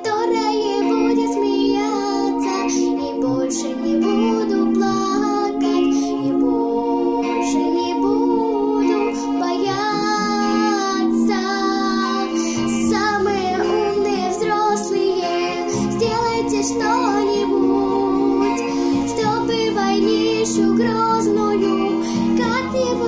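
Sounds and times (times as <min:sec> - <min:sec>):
girl singing: 0:00.0 - 0:23.0
instrumental backing track: 0:00.0 - 0:23.0.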